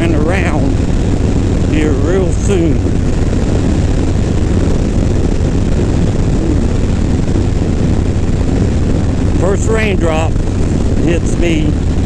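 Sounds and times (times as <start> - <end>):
motorcycle engine running: 0.0 - 12.0
wind and road rush: 0.0 - 12.0.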